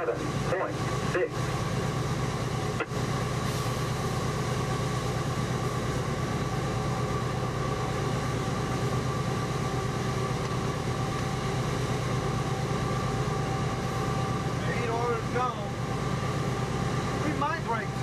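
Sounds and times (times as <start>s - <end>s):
locomotive engine drone: 0.0s - 18.0s
steady multi-tone whine: 0.0s - 18.0s
train wheels on rails: 0.0s - 18.0s.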